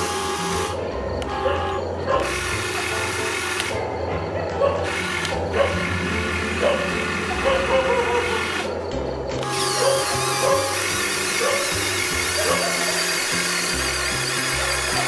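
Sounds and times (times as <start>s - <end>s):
electric motors whirring: 0.0s - 15.0s.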